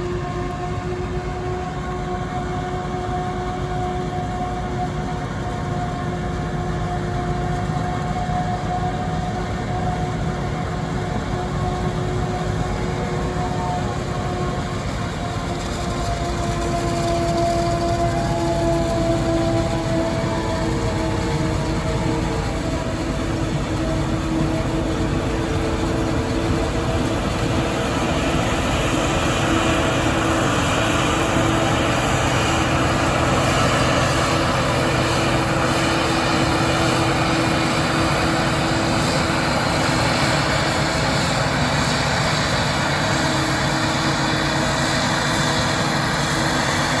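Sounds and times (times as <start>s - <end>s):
low engine tones: 0.0s - 47.0s
tractor engine: 0.0s - 47.0s.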